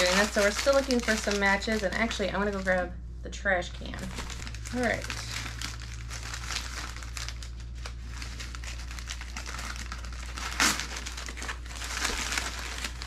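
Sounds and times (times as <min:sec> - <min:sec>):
newspaper crinkling and rustling: 0:00.0 - 0:02.8, 0:04.0 - 0:13.0.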